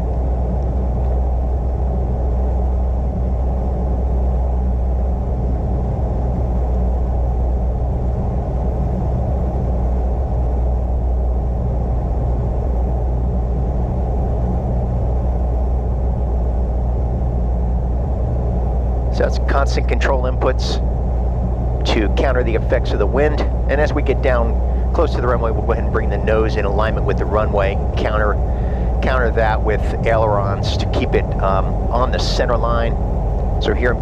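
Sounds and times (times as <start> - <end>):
propeller plane engine drone: 0.0 - 34.0.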